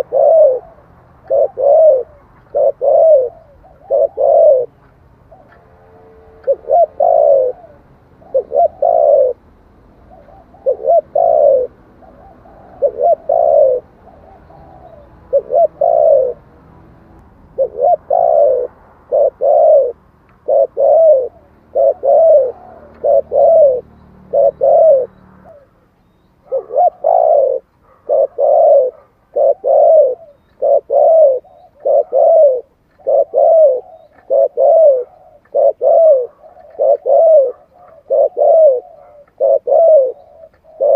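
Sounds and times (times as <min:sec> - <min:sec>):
dove cooing: 0:00.0 - 0:16.5, 0:17.5 - 0:40.9.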